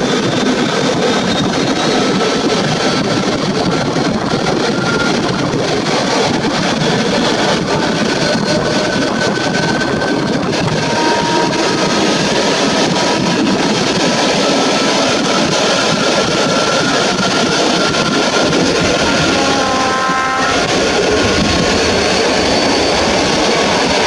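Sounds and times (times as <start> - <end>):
train wheels rumbling and clattering: 0.0 - 24.0
high wheel squeals: 0.2 - 24.0.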